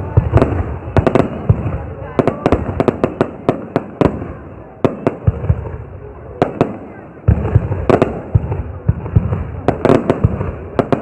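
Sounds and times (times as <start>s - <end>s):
fireworks banging and cracking: 0.0s - 11.0s.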